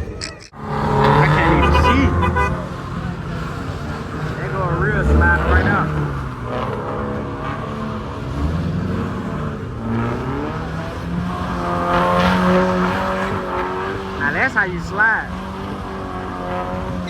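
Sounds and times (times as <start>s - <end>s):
car engine revving hard: 0.6s - 17.0s.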